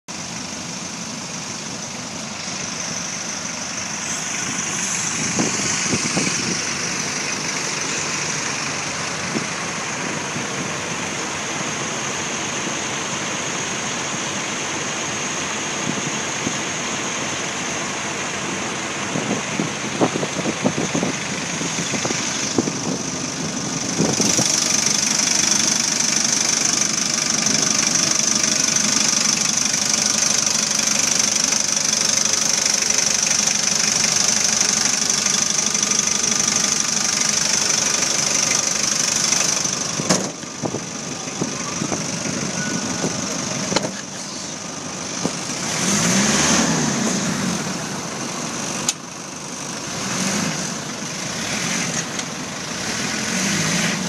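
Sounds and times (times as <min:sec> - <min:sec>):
diesel engine running: 0:00.1 - 0:54.0.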